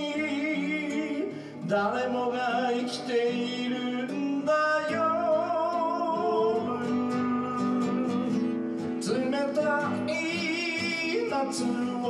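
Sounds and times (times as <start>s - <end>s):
acoustic guitar strummed: 0.0s - 12.0s
person singing: 0.0s - 12.0s.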